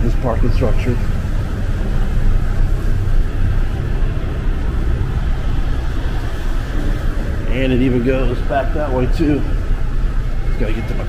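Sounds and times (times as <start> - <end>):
cars idling in traffic: 0.0 - 11.0.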